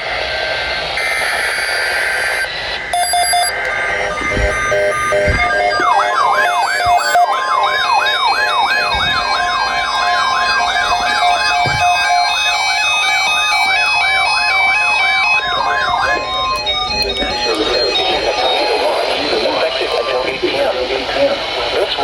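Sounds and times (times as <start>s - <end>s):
stepped beeping tones: 1.0s - 20.2s
steady high tone: 1.0s - 20.4s
electronic siren yelp: 1.0s - 21.2s.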